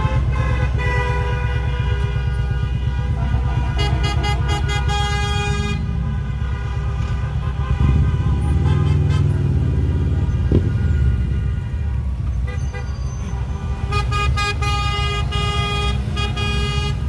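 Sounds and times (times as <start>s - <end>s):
car horns honking: 0.0s - 17.0s
low rumble of engines: 0.0s - 17.0s.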